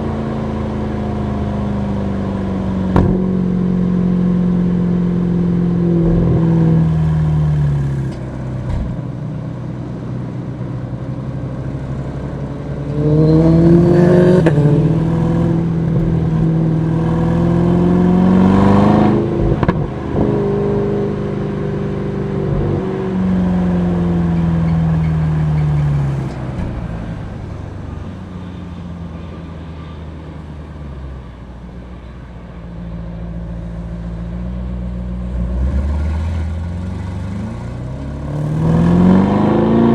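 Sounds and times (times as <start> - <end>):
car engine accelerating: 0.0 - 32.2, 32.8 - 39.9.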